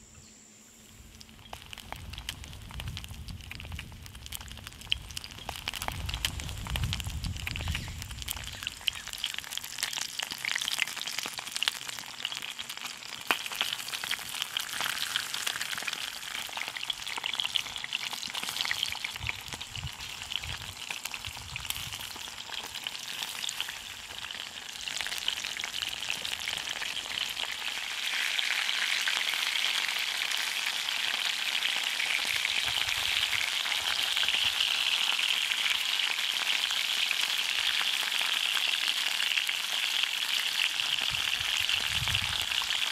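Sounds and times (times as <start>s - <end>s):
fish frying in hot oil: 0.8s - 42.9s.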